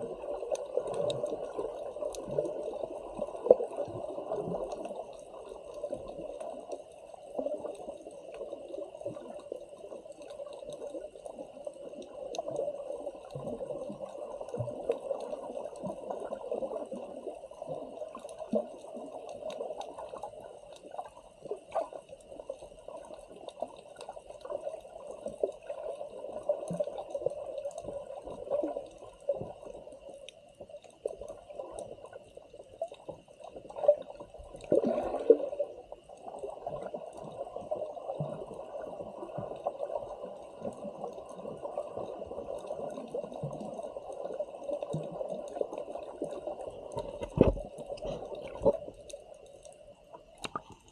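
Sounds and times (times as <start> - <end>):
small crackles: 0.0 - 50.9
water sloshing and bubbling: 0.0 - 50.9.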